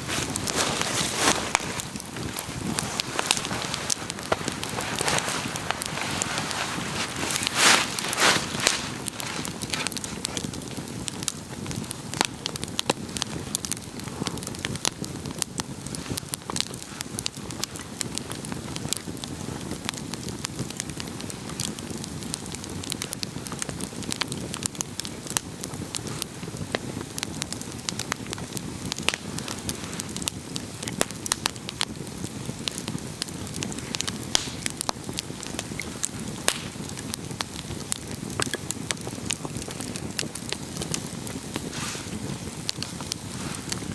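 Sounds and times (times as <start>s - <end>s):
campfire pops and snaps: 0.0s - 43.9s
rush of burning flames: 0.0s - 43.9s.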